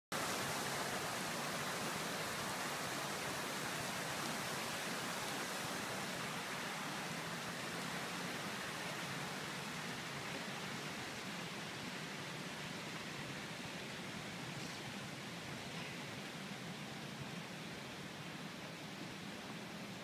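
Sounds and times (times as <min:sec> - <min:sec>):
outdoor ambient hiss: 0:00.1 - 0:20.0.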